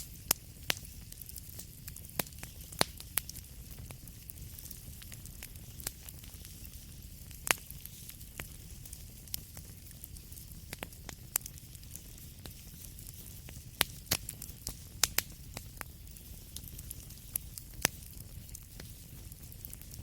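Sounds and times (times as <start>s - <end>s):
low rumble of fire: 0.0s - 20.0s
wood fire crackling and popping: 0.0s - 20.0s.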